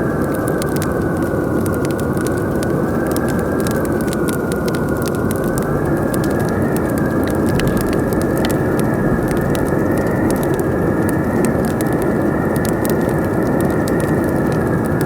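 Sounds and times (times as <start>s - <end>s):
low wind rush: 0.0s - 15.0s
wood fire crackling and popping: 0.0s - 15.0s.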